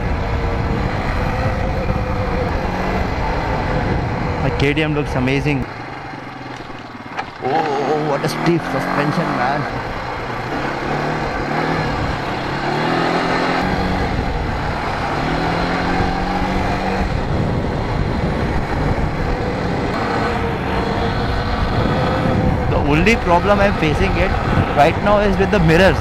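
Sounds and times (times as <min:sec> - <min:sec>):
quad bike engine accelerating: 0:00.0 - 0:26.0
wind rumble on microphone: 0:00.0 - 0:26.0.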